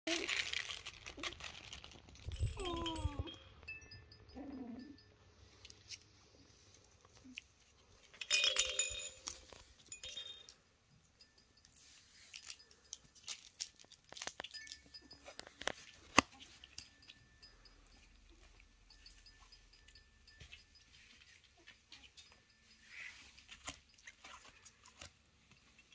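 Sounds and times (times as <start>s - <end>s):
toys clinking and rattling: 0.1s - 6.1s, 7.0s - 25.9s.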